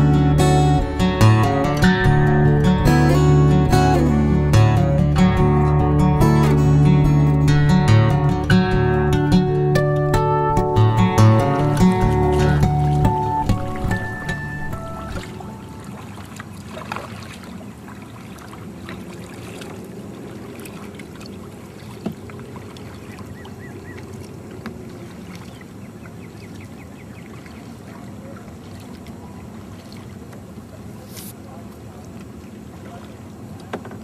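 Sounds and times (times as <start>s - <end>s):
water around kayak and paddle: 0.0s - 34.0s.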